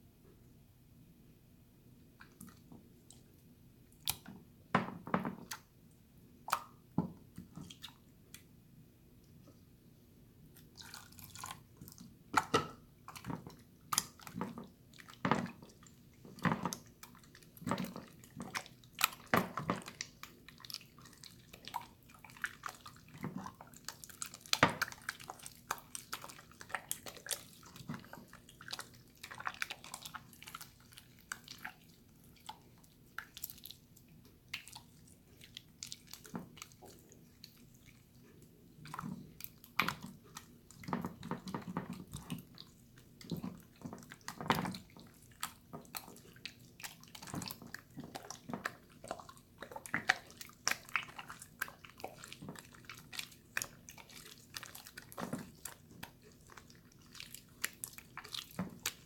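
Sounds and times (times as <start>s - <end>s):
slime squelching by hand: 6.4s - 8.5s, 10.4s - 59.0s.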